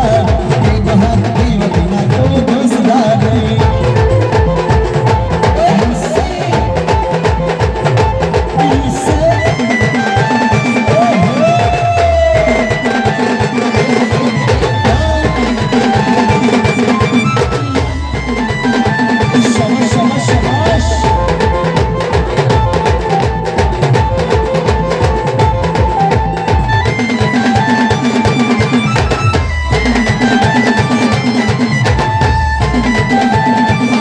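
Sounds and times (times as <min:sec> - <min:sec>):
fast steady drumming: 0:00.0 - 0:34.0
folk band music: 0:00.0 - 0:34.0.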